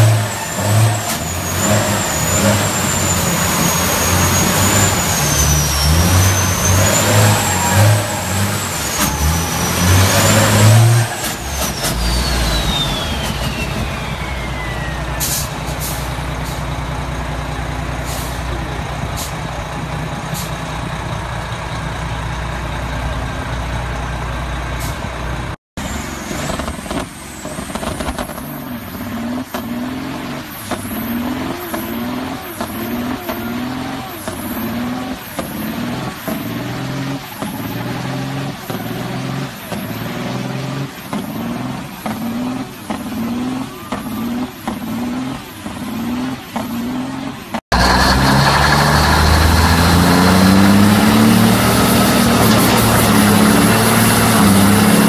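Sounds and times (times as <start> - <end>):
diesel truck engine revving: 0.0 - 55.0.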